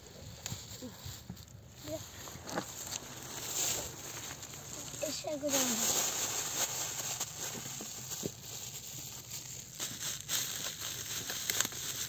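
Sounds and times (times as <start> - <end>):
crinkling and handling noise: 0.0 - 12.0.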